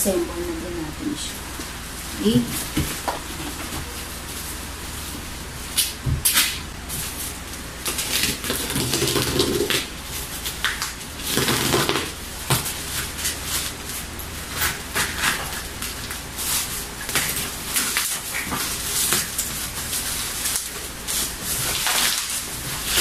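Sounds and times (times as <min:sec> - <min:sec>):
plastic wrapping crinkling and tearing: 0:00.1 - 0:23.0.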